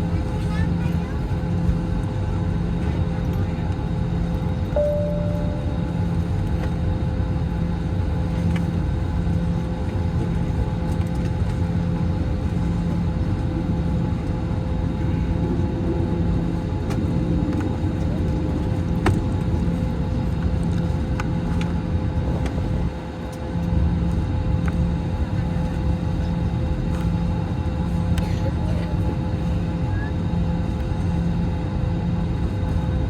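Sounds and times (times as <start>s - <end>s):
aircraft rumble and hum: 0.0s - 33.0s
constant whine: 0.0s - 33.0s.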